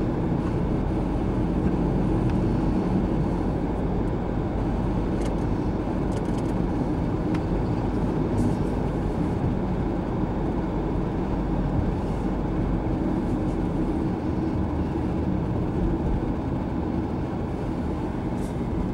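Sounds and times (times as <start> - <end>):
car engine and tyre rumble: 0.0 - 18.9.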